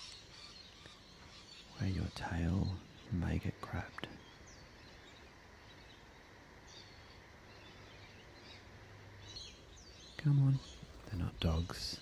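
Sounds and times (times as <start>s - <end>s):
outdoor background: 0.0s - 12.0s.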